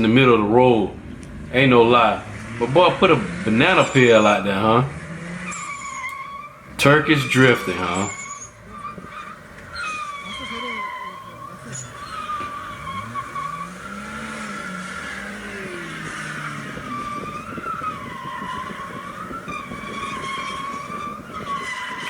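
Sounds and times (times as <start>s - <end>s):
car engine revving: 0.0s - 22.0s
car tyres squealing: 0.0s - 22.0s.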